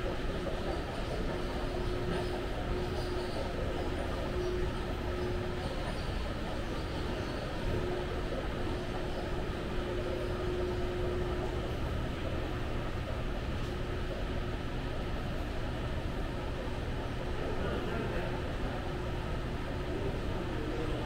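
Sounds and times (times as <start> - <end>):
faint steady hum: 0.0 - 21.0
machinery drone: 0.0 - 21.0.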